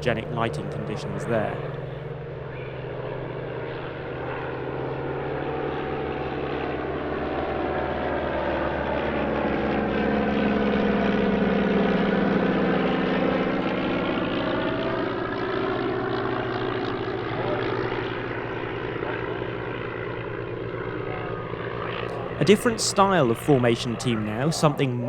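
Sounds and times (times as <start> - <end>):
propeller aircraft flying past: 0.0 - 25.0.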